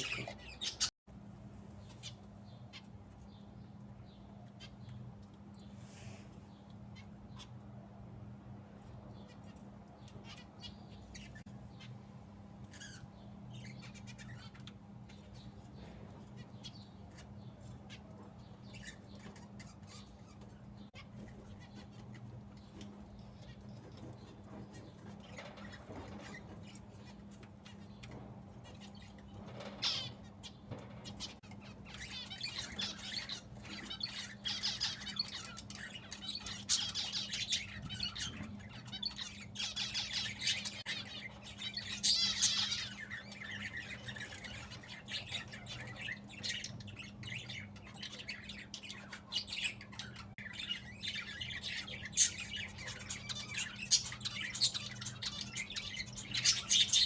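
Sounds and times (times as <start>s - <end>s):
pet birds chirping and squawking: 0.0s - 0.9s, 1.6s - 57.0s.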